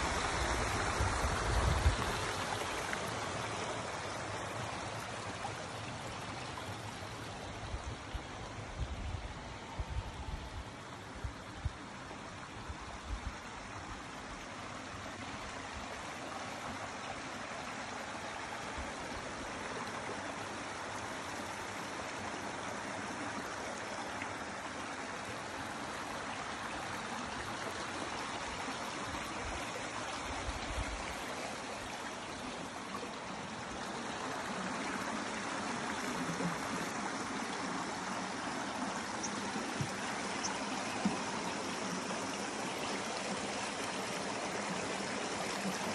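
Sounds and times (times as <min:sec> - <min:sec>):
stream rushing and trickling: 0:00.0 - 0:45.9.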